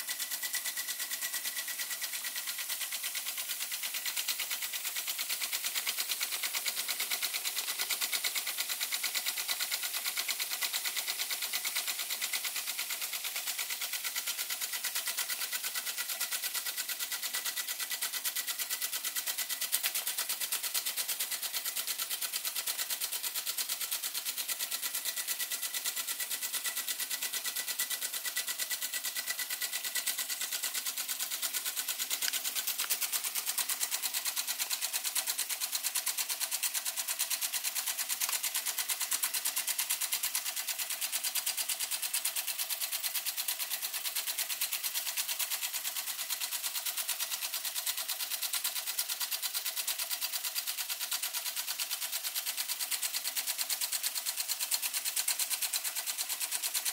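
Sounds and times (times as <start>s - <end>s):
toy steam engine ticking clatter: 0.0s - 56.9s.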